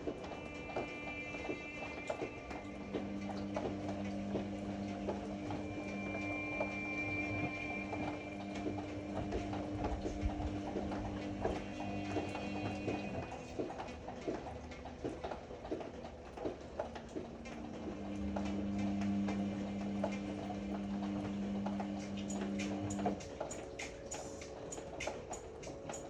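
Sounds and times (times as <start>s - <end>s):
washer drum motor humming: 0.0s - 26.0s.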